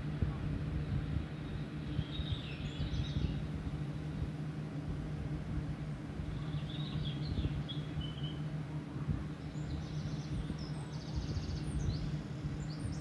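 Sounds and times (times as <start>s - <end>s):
low hum: 0.0s - 13.0s
small birds chirping: 0.8s - 4.4s, 5.8s - 13.0s.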